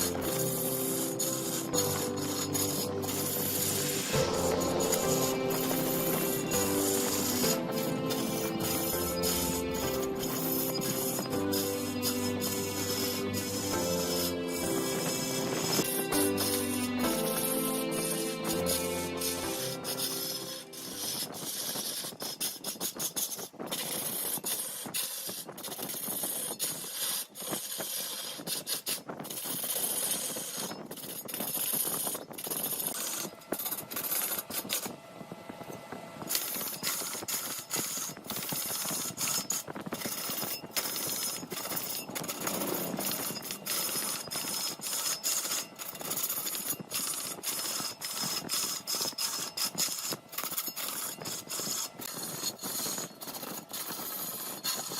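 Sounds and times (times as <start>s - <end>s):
lathe tool scraping spinning wood: 0.0s - 54.9s.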